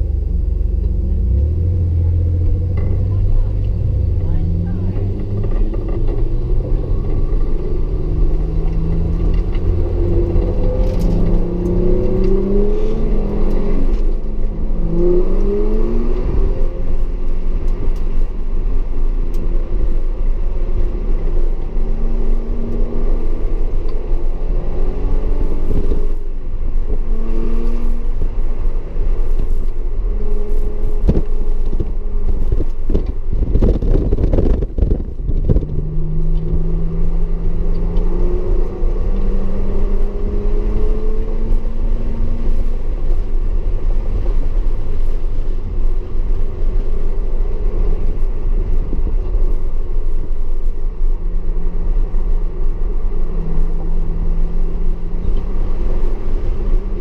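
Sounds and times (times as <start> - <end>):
car engine accelerating and shifting: 0.0 - 57.0.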